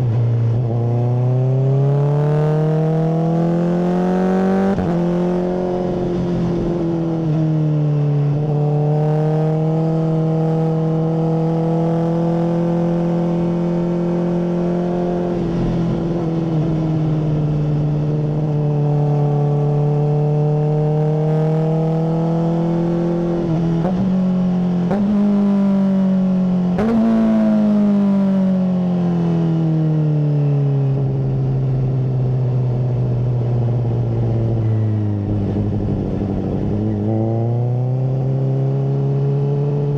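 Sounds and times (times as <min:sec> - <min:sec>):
motorcycle engine revving: 0:00.0 - 0:29.8, 0:31.0 - 0:39.9.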